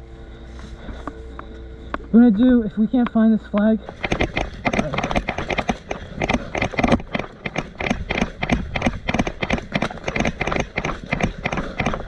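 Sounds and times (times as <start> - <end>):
running footsteps on ground: 0.5 - 12.0.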